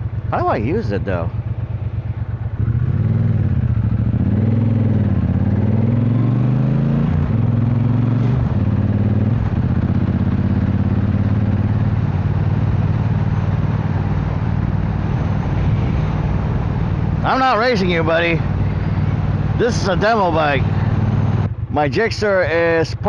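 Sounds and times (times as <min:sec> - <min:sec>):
motorcycle engine while riding: 0:00.0 - 0:23.0.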